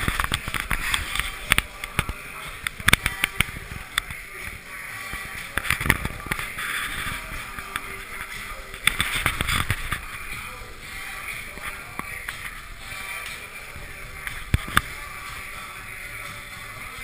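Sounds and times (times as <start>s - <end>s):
music playing: 0.0s - 17.0s.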